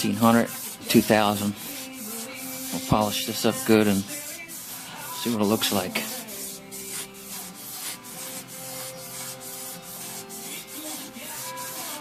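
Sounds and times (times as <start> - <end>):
sandpaper rubbing on steel: 0.0 - 12.0.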